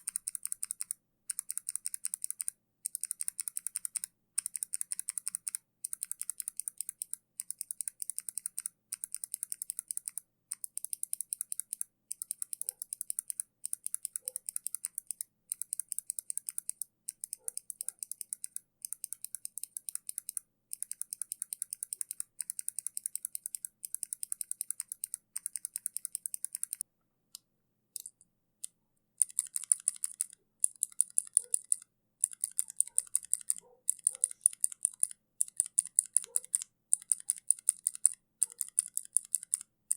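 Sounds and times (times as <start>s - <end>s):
fast typing on mechanical keyboard: 0.0s - 26.8s, 29.2s - 39.7s.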